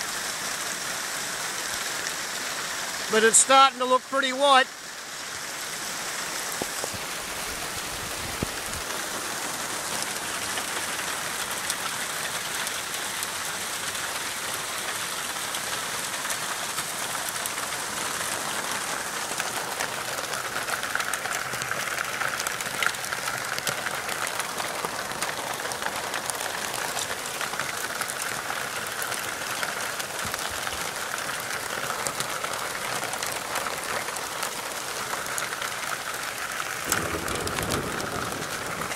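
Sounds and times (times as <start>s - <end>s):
hail falling: 0.0s - 38.9s
hailstones clicking: 6.1s - 38.9s.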